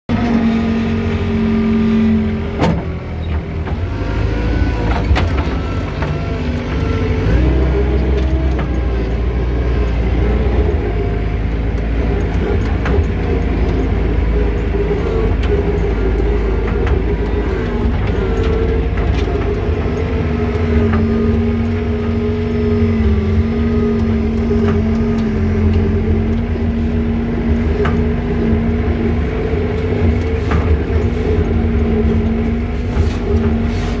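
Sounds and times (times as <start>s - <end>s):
loader engine running: 0.1s - 34.0s.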